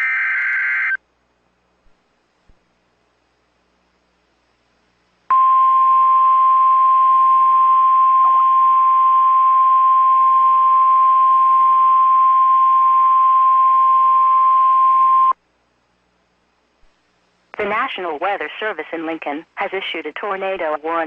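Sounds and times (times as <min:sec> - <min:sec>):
faint radio hiss: 0:00.0 - 0:21.0.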